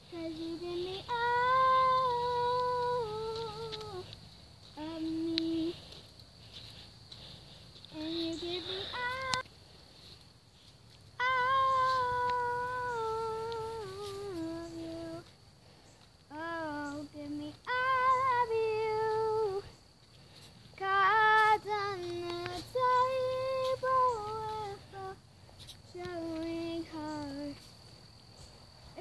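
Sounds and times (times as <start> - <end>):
girl singing unaccompanied: 0.0 - 28.0.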